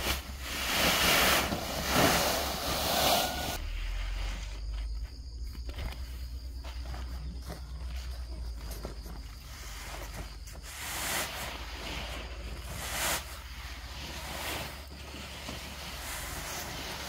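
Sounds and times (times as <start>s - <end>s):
dry rice and tarpaulin rustling: 0.0s - 17.0s.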